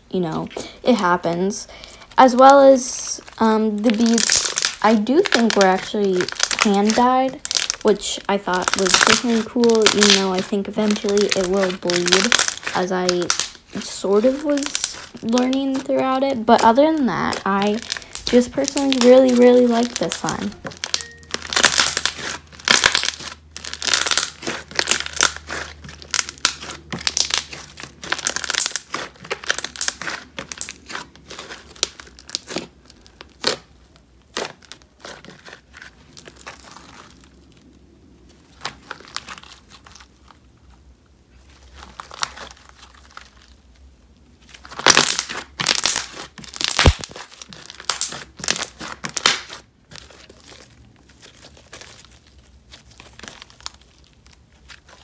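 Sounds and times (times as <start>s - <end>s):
slime crunching and crackling: 0.0s - 55.0s.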